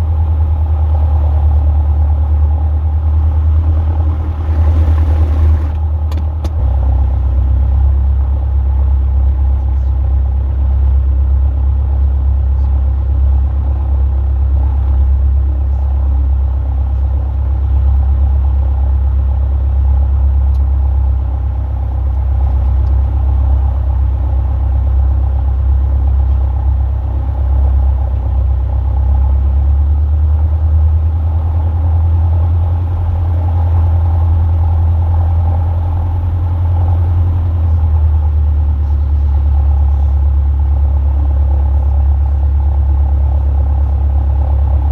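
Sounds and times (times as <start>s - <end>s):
light aircraft engine droning: 0.0s - 44.9s.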